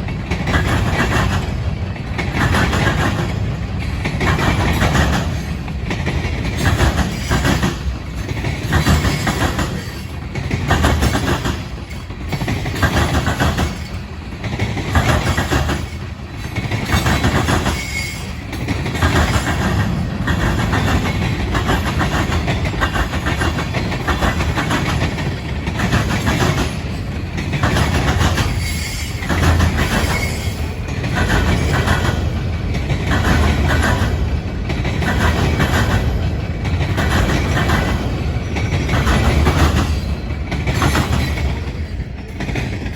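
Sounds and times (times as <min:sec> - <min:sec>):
train wheels clicking over rail joints: 0:00.0 - 0:42.9.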